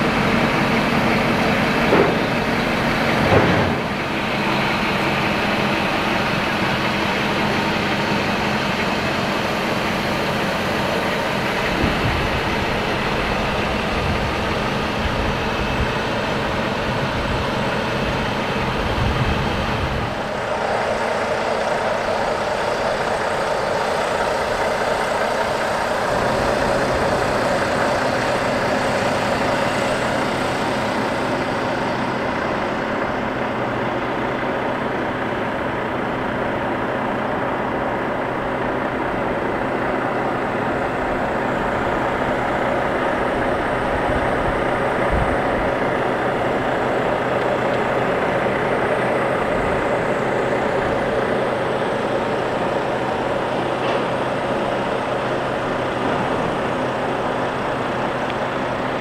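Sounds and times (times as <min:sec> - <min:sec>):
motor vehicle rumble: 0:00.0 - 0:59.0.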